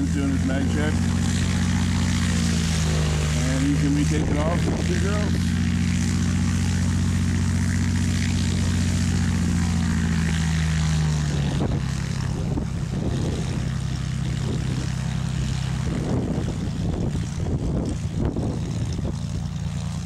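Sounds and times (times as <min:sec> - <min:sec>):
airplane piston engine and propeller: 0:00.0 - 0:20.0.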